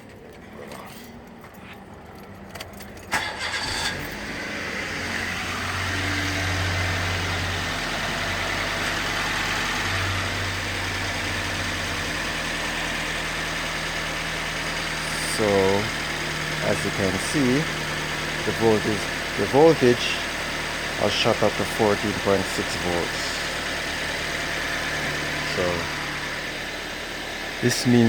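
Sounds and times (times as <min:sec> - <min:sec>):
car engine cranking and idling: 0:00.0 - 0:28.0.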